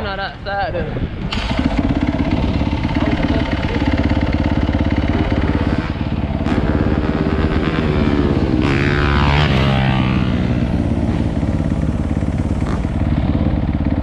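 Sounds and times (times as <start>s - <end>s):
dirt bike engine running: 1.3s - 14.0s.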